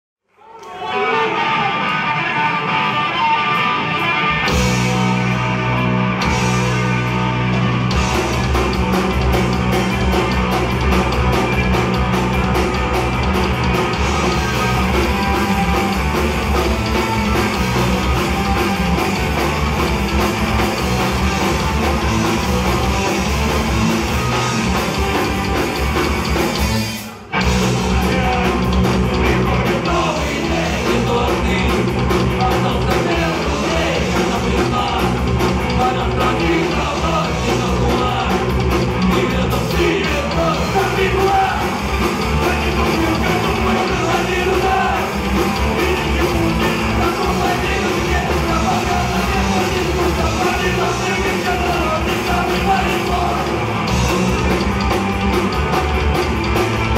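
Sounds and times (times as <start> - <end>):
punk rock band playing: 0.7 - 56.9.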